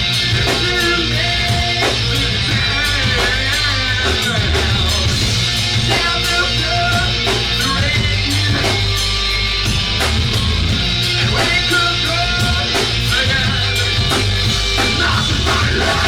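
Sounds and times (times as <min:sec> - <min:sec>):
bass guitar: 0:00.0 - 0:16.0
drum beat: 0:00.0 - 0:16.0
electric guitar: 0:00.0 - 0:16.0.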